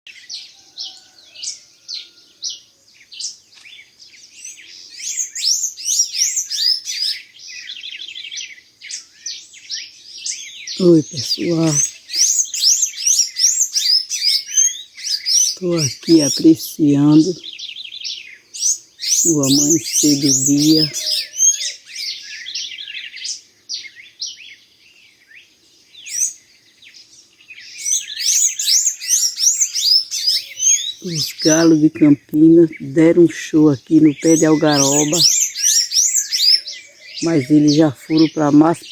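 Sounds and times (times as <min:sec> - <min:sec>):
songbirds chirping: 0:00.1 - 0:38.9.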